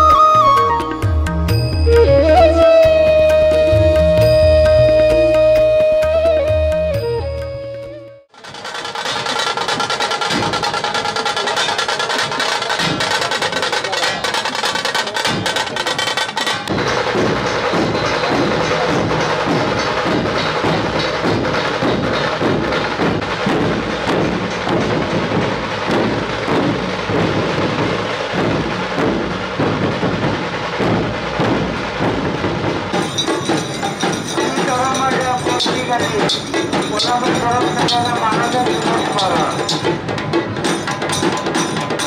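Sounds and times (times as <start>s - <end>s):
barrel drums steady beat: 8.3s - 42.0s
tasha drums rattling: 8.3s - 42.0s.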